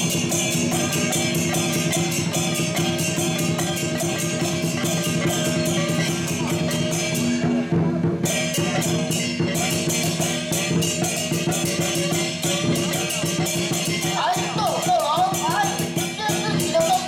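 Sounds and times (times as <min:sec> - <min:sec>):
drum beating: 0:00.0 - 0:17.0
rapid cymbal clashes: 0:00.0 - 0:17.0.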